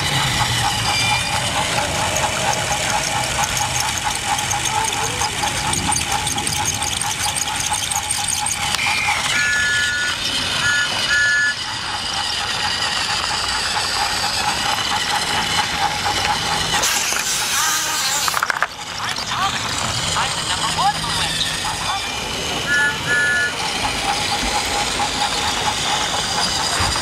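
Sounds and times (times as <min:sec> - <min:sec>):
toy train motor whine: 0:00.0 - 0:27.0
wheels rattling on plastic rails: 0:00.0 - 0:27.0.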